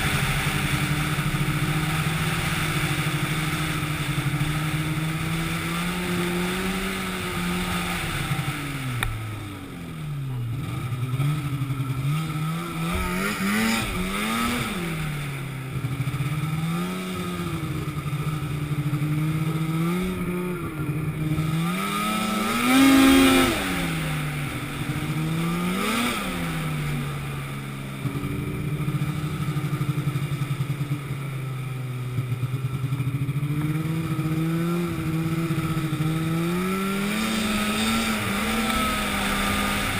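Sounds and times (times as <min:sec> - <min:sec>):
engine revving: 0:00.0 - 0:31.2, 0:32.2 - 0:39.9.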